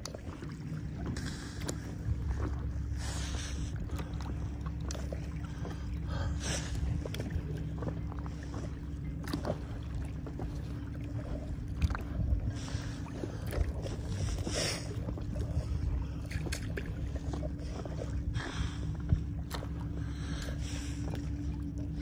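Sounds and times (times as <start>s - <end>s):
paddle splashing in water: 0.0s - 18.8s, 19.4s - 22.0s
steady low hum: 0.0s - 22.0s.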